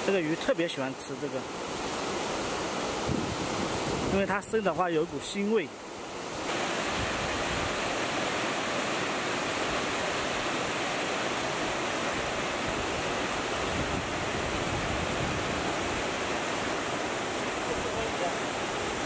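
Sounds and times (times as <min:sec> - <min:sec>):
water rushing over a weir: 0:00.0 - 0:19.0.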